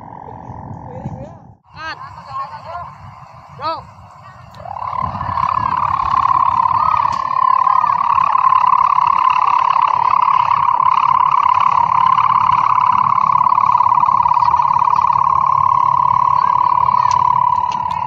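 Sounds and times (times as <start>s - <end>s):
kite hummer droning: 0.0s - 18.0s.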